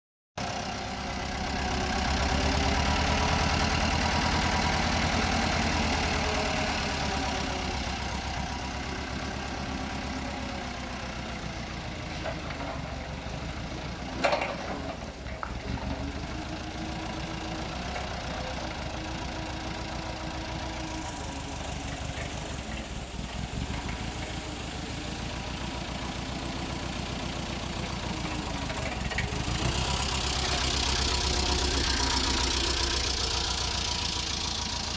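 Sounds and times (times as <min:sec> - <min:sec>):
machinery engine running: 0:00.4 - 0:34.9.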